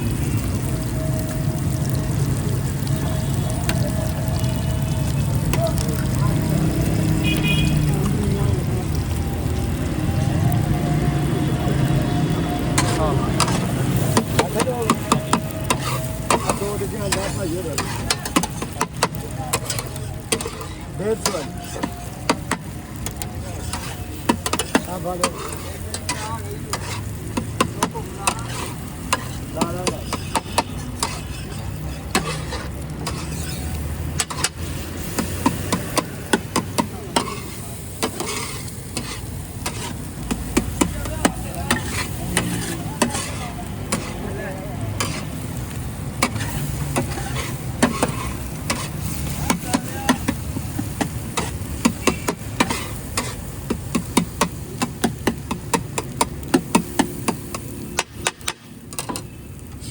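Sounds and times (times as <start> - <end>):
food frying on a griddle: 0.0 - 59.9
metal utensil scraping a griddle: 11.7 - 59.9.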